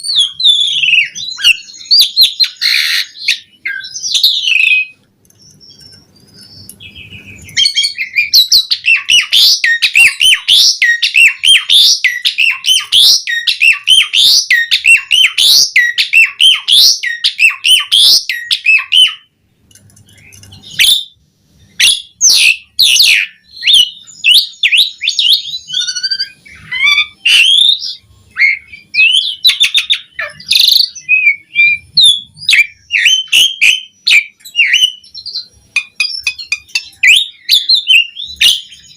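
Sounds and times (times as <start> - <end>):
starling singing chirps and whistles: 0.0 - 19.4, 20.1 - 38.9.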